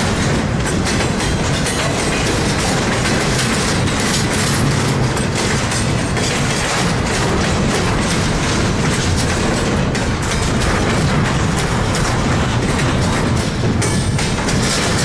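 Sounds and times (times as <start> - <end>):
clicks and knocks: 0.0 - 15.0
train wheels rumbling on rail: 0.0 - 15.0.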